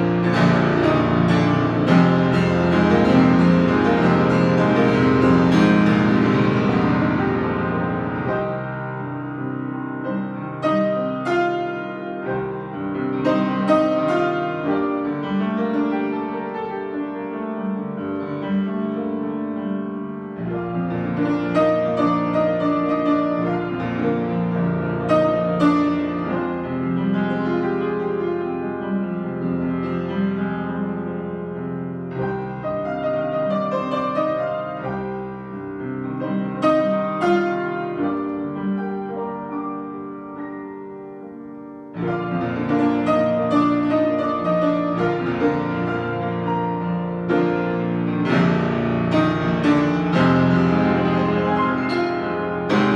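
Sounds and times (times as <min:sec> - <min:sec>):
grand piano playing: 0:00.0 - 0:52.9.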